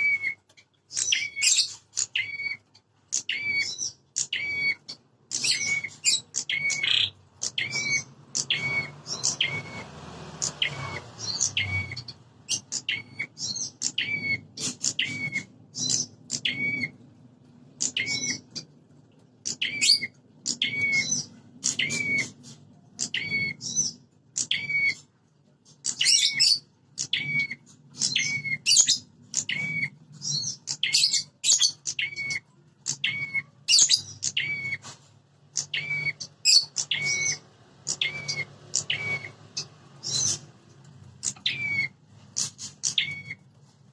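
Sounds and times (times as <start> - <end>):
small bird sharp chirping calls: 0.0 - 17.0, 17.7 - 18.7, 19.4 - 25.1, 25.7 - 43.6.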